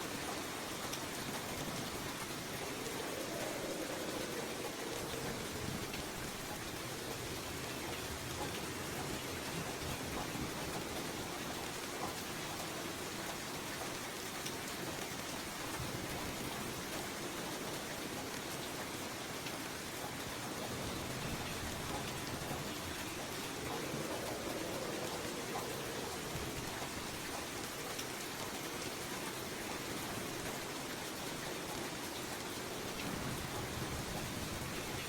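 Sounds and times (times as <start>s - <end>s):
light rain falling: 0.0s - 35.0s.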